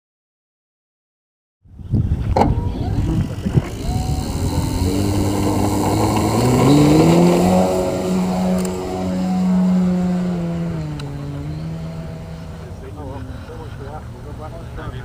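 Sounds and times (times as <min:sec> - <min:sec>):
model airplane engine drone: 0:02.4 - 0:15.0.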